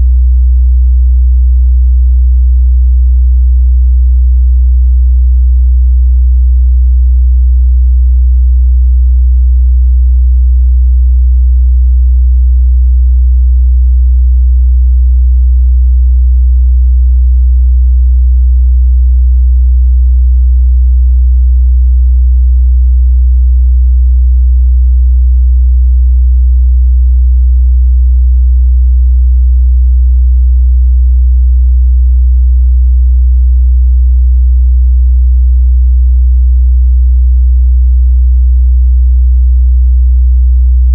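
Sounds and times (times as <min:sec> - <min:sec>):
low sine-wave test tone: 0:00.0 - 0:37.2.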